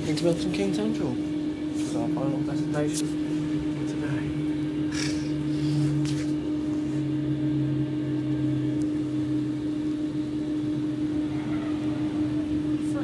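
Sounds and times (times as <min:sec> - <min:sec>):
train humming: 0:00.0 - 0:13.0.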